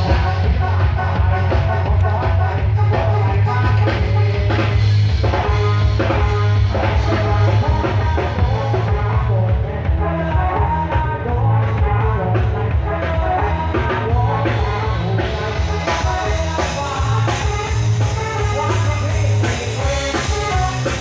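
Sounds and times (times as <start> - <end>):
heavy bass line: 0.0 - 21.0
steady drum beat: 0.0 - 21.0.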